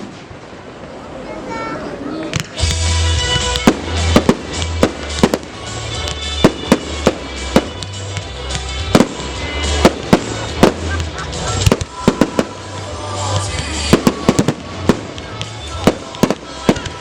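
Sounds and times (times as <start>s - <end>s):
fireworks bangs and cracks: 0.0s - 1.0s, 2.2s - 17.0s
music with heavy bass: 2.6s - 17.0s.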